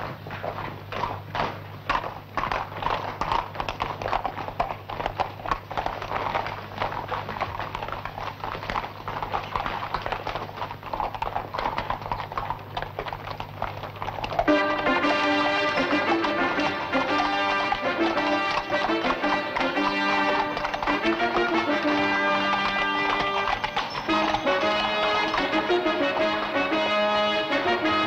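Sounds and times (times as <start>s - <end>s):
horse hooves on cobblestones: 0.0s - 28.0s.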